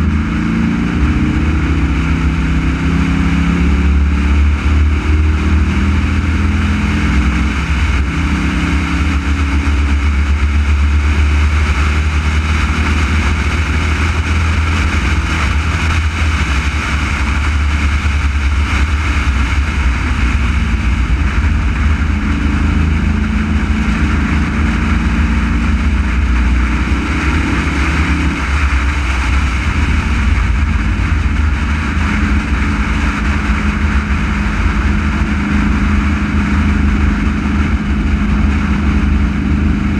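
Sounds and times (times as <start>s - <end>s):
race car engine: 0.0s - 39.9s
wind and road rumble: 0.0s - 39.9s.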